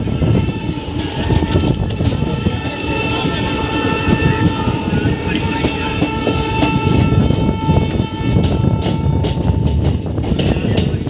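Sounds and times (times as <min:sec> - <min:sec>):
train wheels rumbling on rails: 0:00.0 - 0:11.0
wheels clicking over rail joints: 0:00.0 - 0:11.0.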